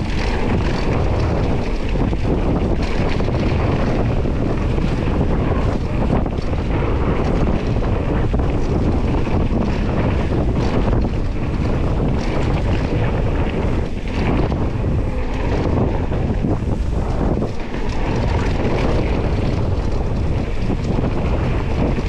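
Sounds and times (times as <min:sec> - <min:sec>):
mountain bike rumbling and rattling: 0:00.0 - 0:22.0
wind on microphone: 0:00.0 - 0:22.0.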